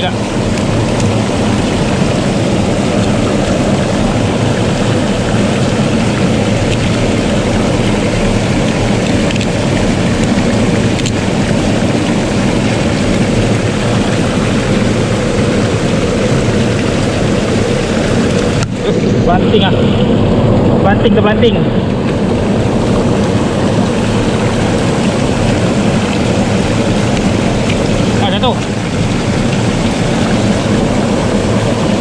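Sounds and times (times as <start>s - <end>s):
surf rushing: 0.0s - 32.0s
wind buffeting microphone: 0.0s - 32.0s.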